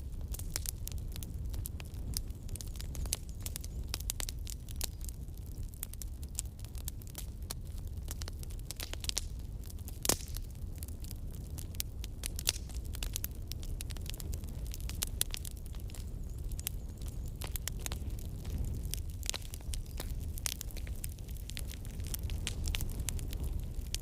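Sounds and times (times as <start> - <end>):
campfire crackling and popping: 0.0 - 24.0
low fire rumble: 0.0 - 24.0.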